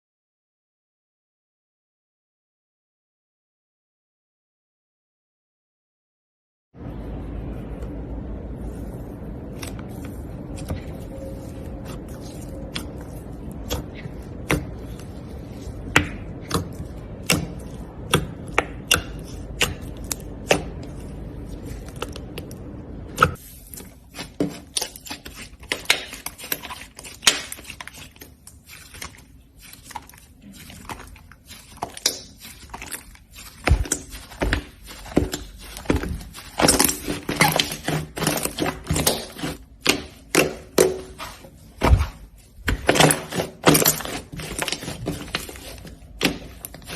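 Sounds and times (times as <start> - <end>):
low steady hum: 6.8 - 46.9.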